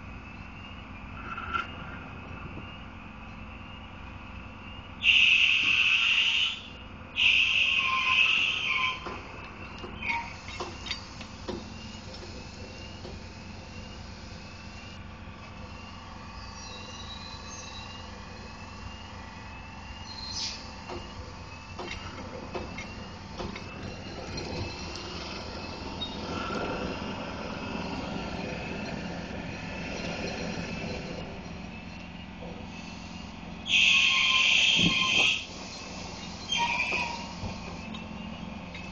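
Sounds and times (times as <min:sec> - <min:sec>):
engine running low rumble: 0:00.0 - 0:38.9.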